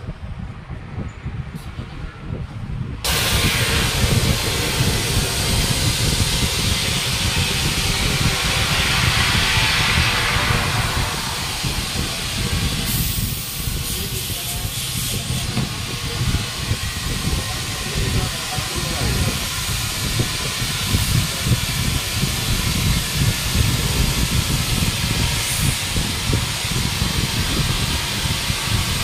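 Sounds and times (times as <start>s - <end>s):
low rumble: 0.0s - 29.0s
compressed air hissing through hose: 3.1s - 29.0s.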